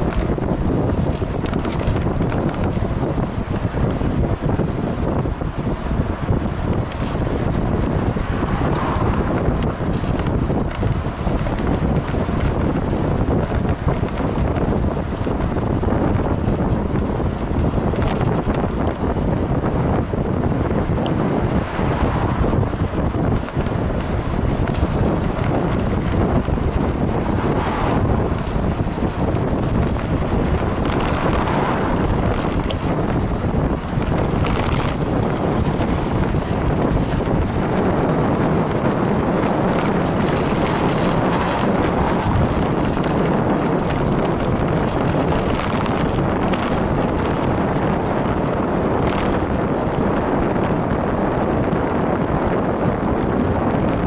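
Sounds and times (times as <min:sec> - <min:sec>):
bicycle rumble on asphalt: 0:00.0 - 0:54.0
wind buffeting microphone: 0:00.0 - 0:54.0.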